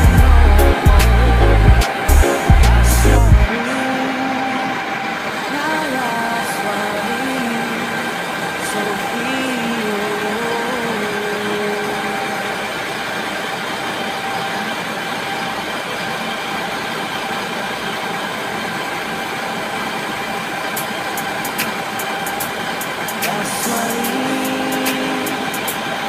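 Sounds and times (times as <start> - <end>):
engine room machinery drone: 0.0 - 26.0
machinery whine tones: 0.0 - 26.0
wavering tone: 0.0 - 26.0.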